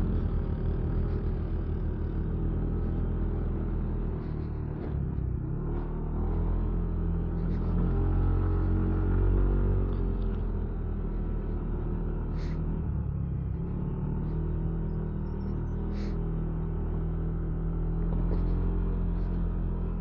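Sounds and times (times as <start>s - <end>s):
vehicle engine labouring uphill: 0.0s - 20.0s.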